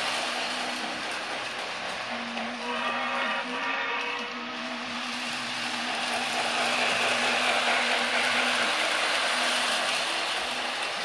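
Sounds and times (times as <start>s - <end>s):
toy train running on track: 0.0s - 11.0s.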